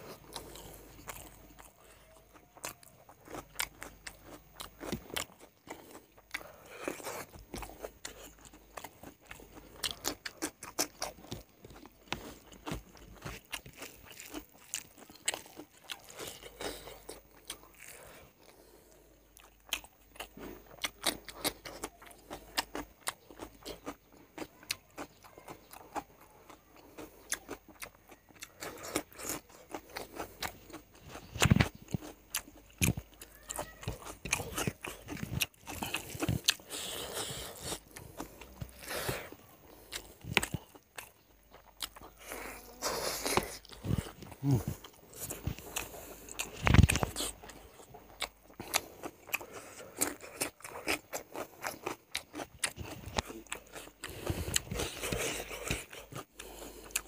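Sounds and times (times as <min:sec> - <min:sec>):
crunching raw cucumber: 0:00.0 - 0:57.0
person chewing food: 0:00.0 - 0:57.0.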